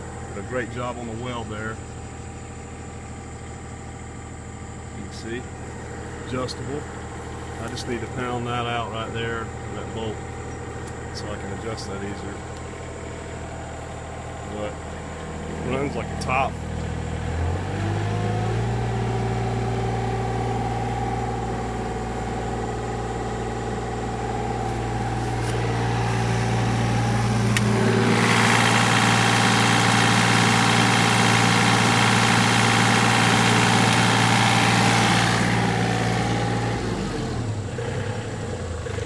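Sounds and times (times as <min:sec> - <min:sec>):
diesel engine running steadily: 0:00.0 - 0:39.0.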